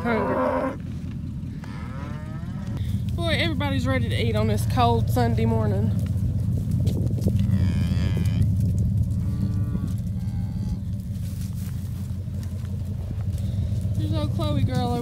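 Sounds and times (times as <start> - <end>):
cattle mooing: 0.0 - 6.2, 7.2 - 15.0
steady low rumble: 0.0 - 15.0.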